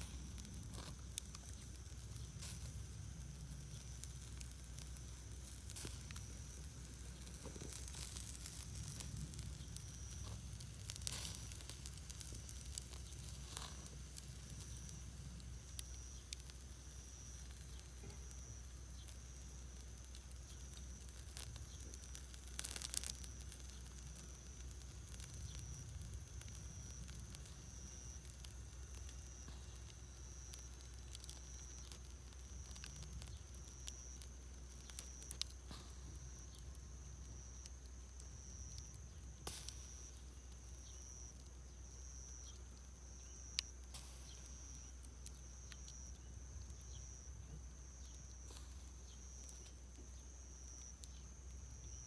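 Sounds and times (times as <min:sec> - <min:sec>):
campfire crackling: 0:00.0 - 0:52.0
fire snaps and pops: 0:00.0 - 0:52.0
steady high hiss: 0:00.0 - 0:52.0.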